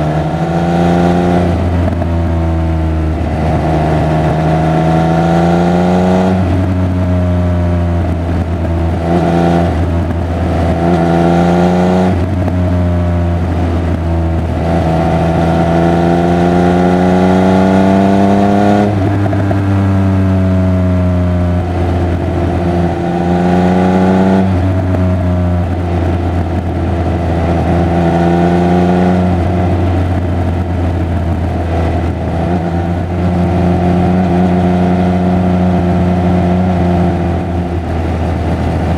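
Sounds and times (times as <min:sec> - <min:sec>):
motorcycle engine and exhaust revving: 0:00.0 - 0:38.9.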